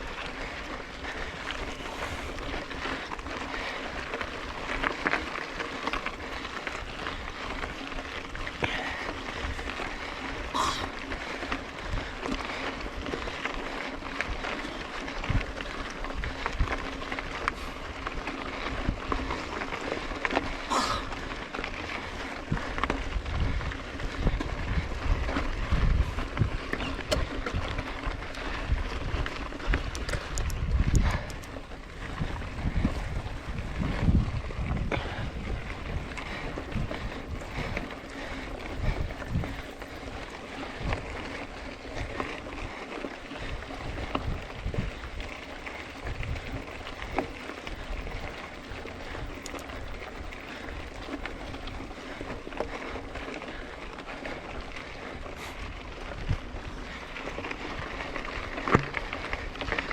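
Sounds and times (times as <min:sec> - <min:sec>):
bike tyre noise on dirt: 0:00.0 - 0:59.9
wind buffeting microphone: 0:00.0 - 0:59.9.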